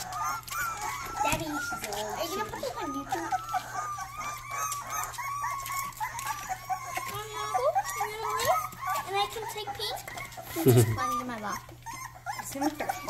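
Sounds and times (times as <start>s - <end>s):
puppies whining and squeaking: 0.0s - 13.0s.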